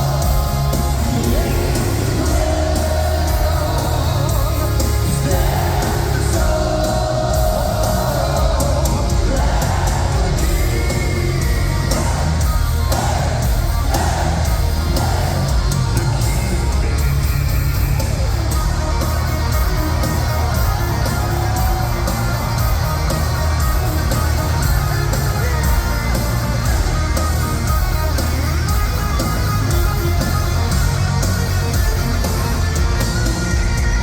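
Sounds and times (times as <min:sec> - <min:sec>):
heavy metal band playing live: 0:00.0 - 0:34.0.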